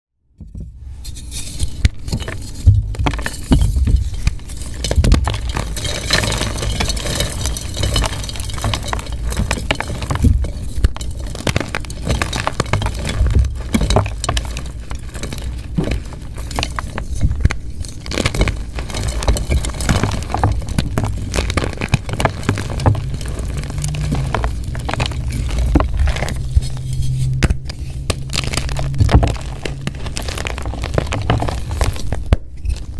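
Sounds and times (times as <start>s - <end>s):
chalk crunching and crackling: 1.0s - 32.9s
low rumble: 2.6s - 32.0s.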